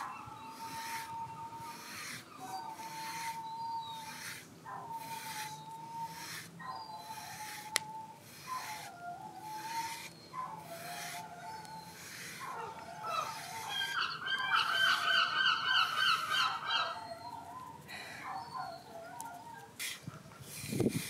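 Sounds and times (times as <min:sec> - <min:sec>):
dog yodelling: 0:00.0 - 0:19.7.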